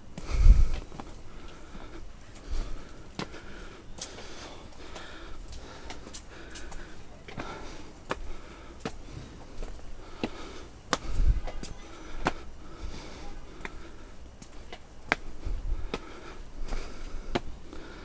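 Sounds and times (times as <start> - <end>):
footsteps on trail: 0.0 - 18.0
heavy breathing: 0.1 - 18.0.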